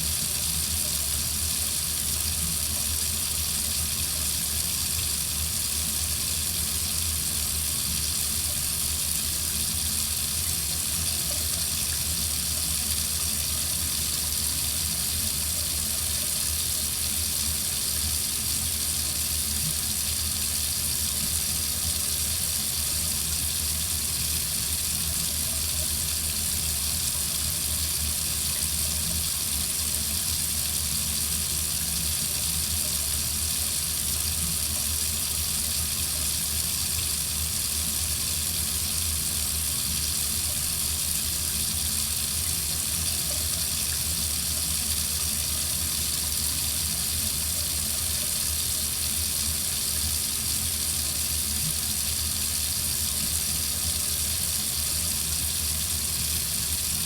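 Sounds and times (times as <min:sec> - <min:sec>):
water running from faucet: 0:00.0 - 0:57.0.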